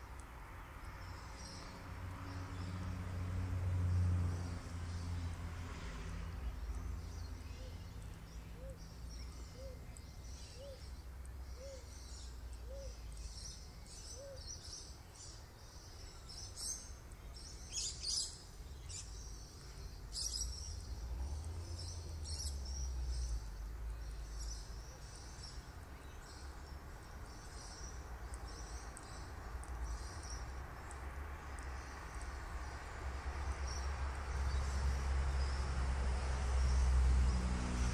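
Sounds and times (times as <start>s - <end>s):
birds chirping: 4.3s - 35.7s.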